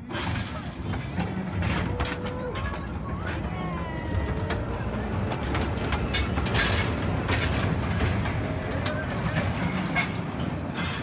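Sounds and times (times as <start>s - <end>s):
metallic clanks and rattles: 0.0s - 11.0s
small train rolling on track: 0.0s - 11.0s.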